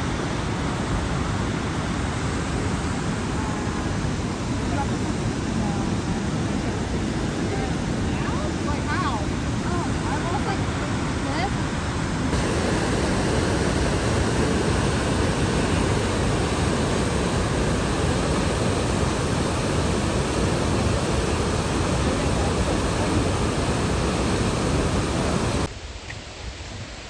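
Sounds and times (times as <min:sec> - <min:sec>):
fast-flowing water rushing: 0:00.0 - 0:27.0.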